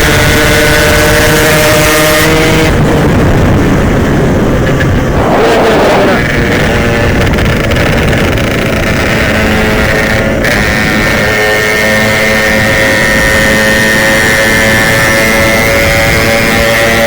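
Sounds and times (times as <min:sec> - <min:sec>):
motorcycle engine running hard: 0:00.0 - 0:17.0
wind rushing over microphone: 0:00.0 - 0:17.0.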